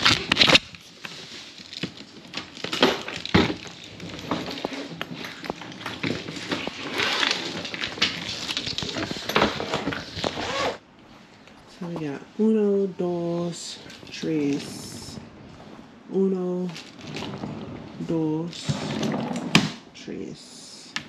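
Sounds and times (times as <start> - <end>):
rustling: 0.0 - 19.7.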